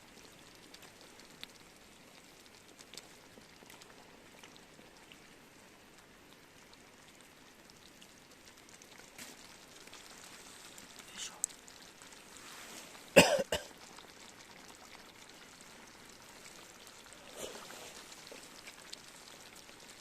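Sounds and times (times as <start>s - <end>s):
campfire crackling: 0.0s - 20.0s
soft steady hiss: 0.0s - 20.0s.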